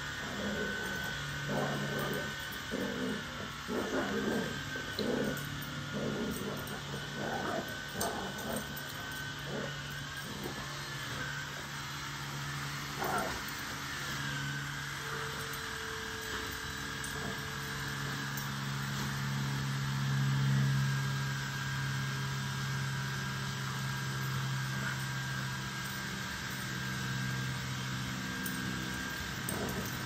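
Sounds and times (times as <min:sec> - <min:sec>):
motor droning: 0:00.0 - 0:30.0.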